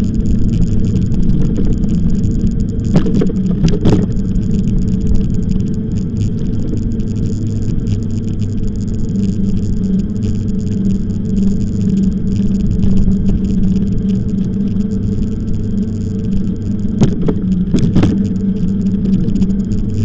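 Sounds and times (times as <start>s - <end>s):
e-bike low rumble and hum: 0.0s - 20.0s.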